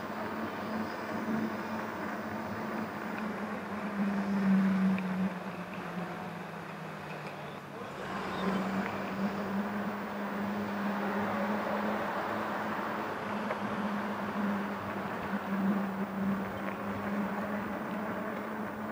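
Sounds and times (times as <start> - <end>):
bike riding rush: 0.0 - 18.9
traffic: 0.0 - 18.9.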